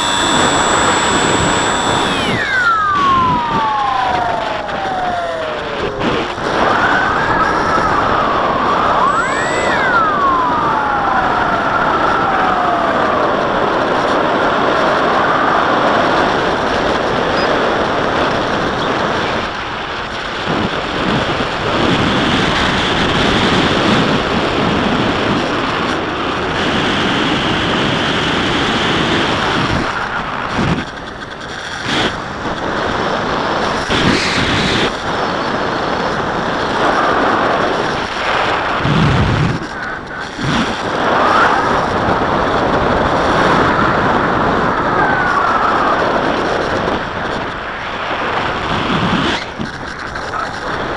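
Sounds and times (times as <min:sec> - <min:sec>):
electric motor and propeller whine: 0:00.0 - 0:50.9
wind rush: 0:00.0 - 0:50.9.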